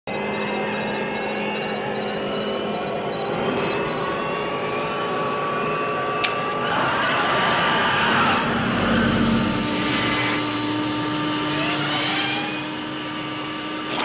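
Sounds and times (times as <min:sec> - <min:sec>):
steady mechanical whine: 0:00.1 - 0:14.0.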